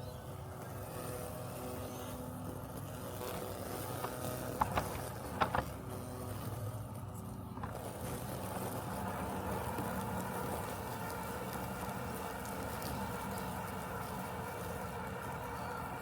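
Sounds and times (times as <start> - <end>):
robotic lawn mower humming: 0.0 - 16.0.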